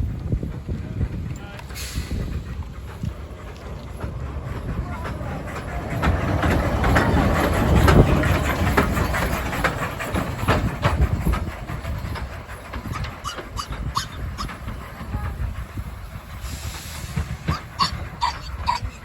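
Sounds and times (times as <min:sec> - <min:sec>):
train wheels clicking over rail joints: 0:00.0 - 0:19.0.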